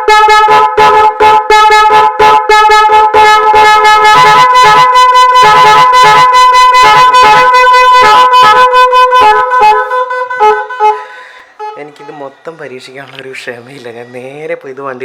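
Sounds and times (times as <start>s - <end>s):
car air horn playing tune: 0.0s - 12.2s.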